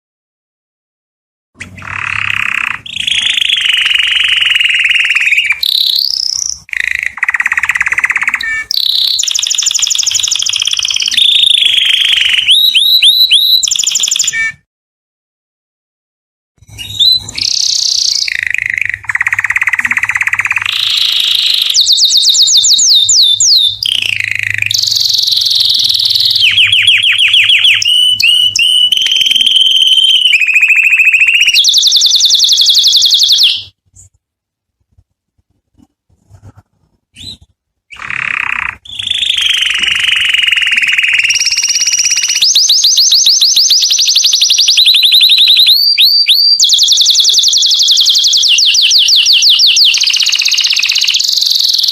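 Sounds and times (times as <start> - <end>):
canary singing trills: 1.6 - 14.7, 16.6 - 34.1, 37.1 - 51.9.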